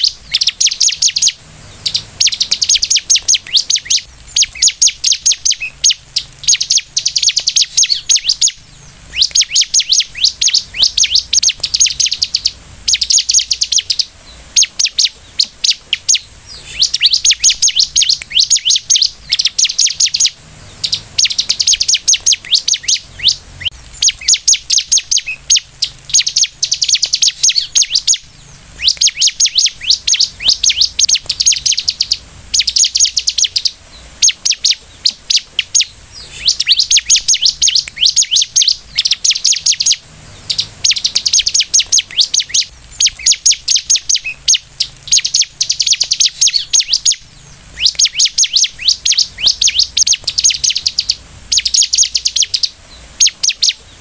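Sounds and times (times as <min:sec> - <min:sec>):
bird rattling trilled song: 0:00.0 - 0:54.0.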